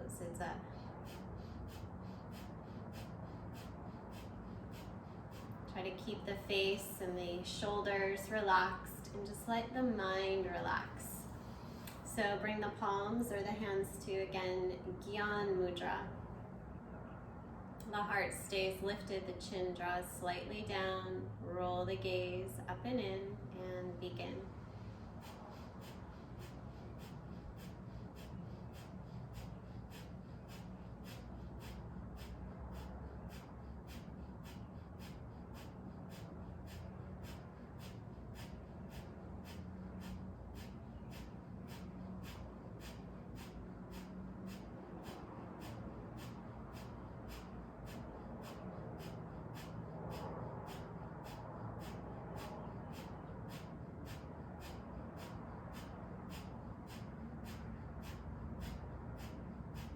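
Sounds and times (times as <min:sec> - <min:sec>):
rapid nasal breathing: 0:00.0 - 0:13.1, 0:24.4 - 0:59.9.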